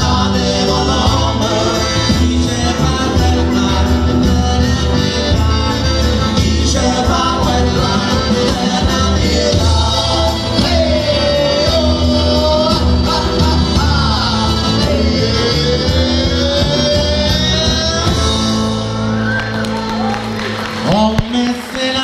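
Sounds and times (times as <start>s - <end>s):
man singing: 0.0s - 19.0s, 20.8s - 22.0s
accordion: 0.0s - 19.5s
live folk band playing: 0.0s - 22.0s.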